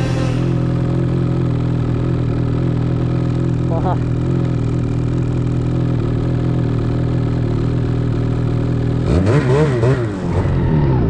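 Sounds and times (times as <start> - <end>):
snowmobile engine idling and revving: 0.0 - 11.0.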